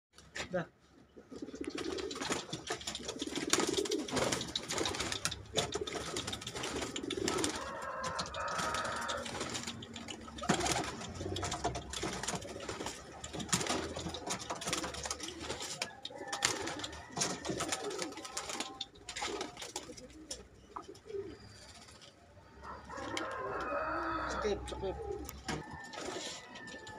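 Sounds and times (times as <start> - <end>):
pigeons cooing: 0.9 - 26.9
wings flapping: 1.3 - 22.2, 25.1 - 26.9.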